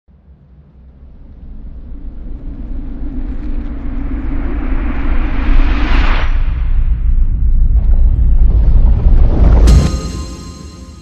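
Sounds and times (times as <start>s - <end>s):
rumbling whoosh riser: 0.2s - 11.0s.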